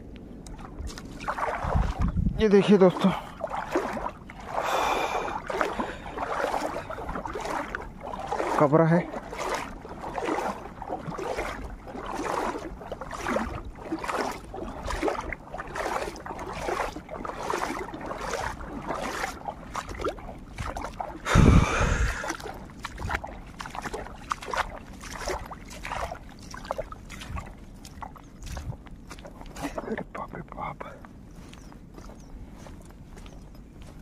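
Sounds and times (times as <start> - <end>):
water splashing beside boat: 0.4 - 34.0.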